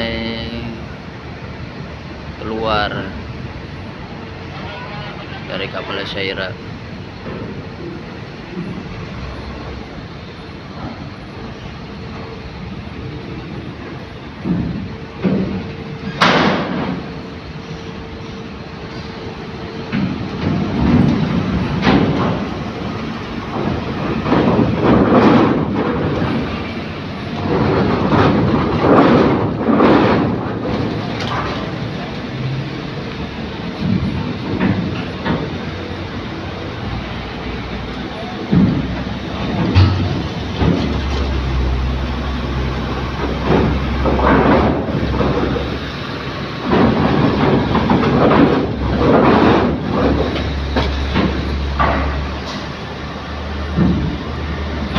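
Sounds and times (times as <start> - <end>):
truck engines rumbling: 0.0 - 54.9
wheels clanking over steel ramp: 2.4 - 54.9.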